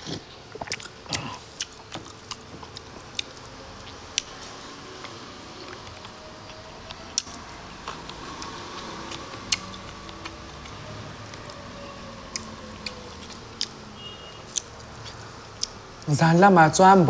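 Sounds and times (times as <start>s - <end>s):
open-mouth chewing: 0.0s - 15.8s.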